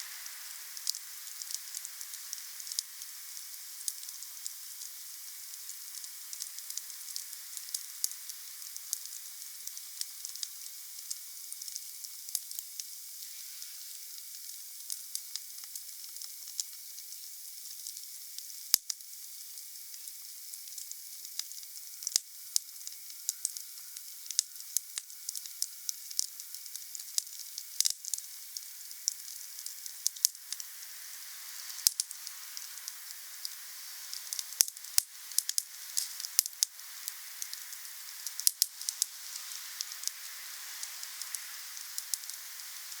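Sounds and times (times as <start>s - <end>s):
campfire crackling and popping: 0.4s - 12.9s, 19.9s - 30.8s, 31.6s - 43.0s.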